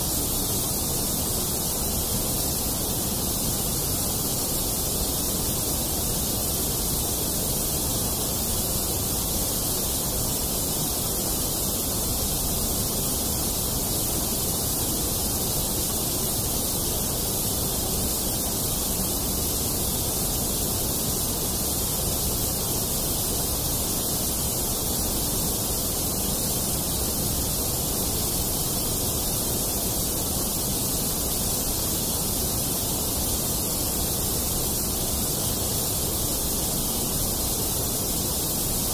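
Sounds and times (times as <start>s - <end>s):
steady synthetic noise hiss: 0.0s - 38.9s.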